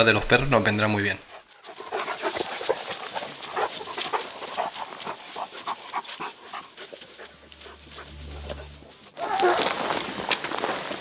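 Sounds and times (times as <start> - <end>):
rustling in dry grass: 1.5 - 11.0.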